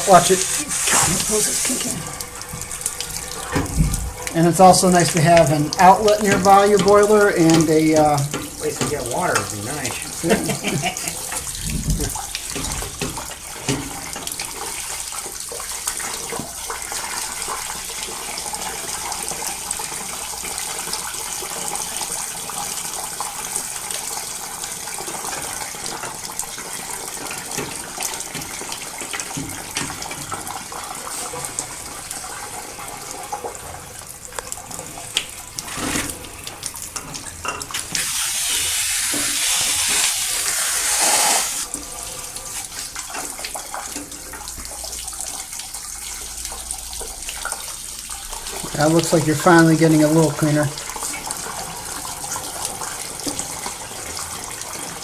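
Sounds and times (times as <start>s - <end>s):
water draining: 0.0s - 55.0s
water running and splashing: 0.0s - 55.0s.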